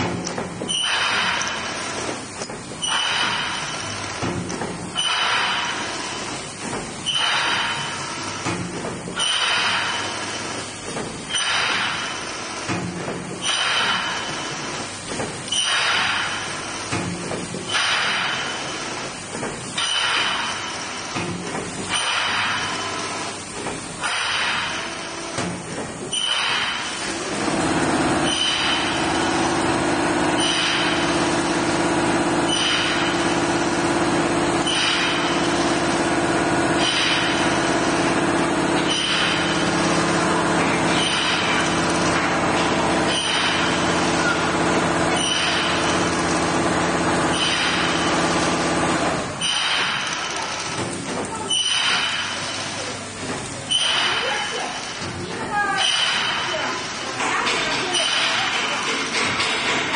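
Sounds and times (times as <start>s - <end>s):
machine motor hum: 0.0s - 59.9s.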